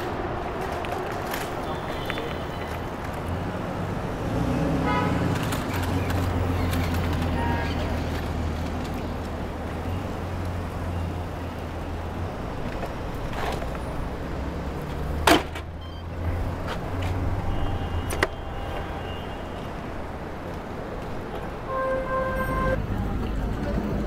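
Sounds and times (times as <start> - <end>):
traffic engine hum: 0.0 - 24.0.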